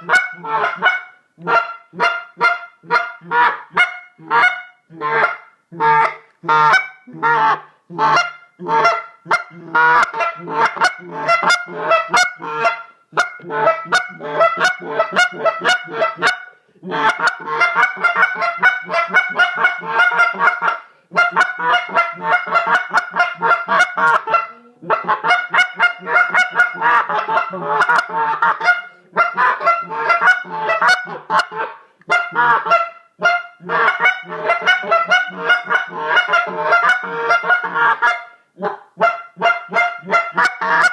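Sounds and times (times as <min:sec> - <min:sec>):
goose call honks and clucks: 0:00.0 - 0:40.9.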